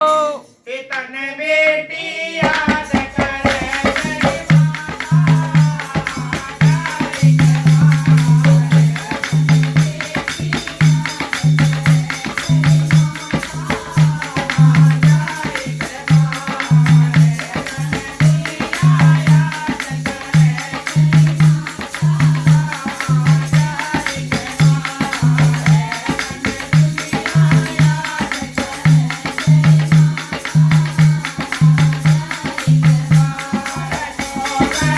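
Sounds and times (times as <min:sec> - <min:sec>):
jingling tambourine-like percussion: 0:00.0 - 0:01.0, 0:02.3 - 0:34.9.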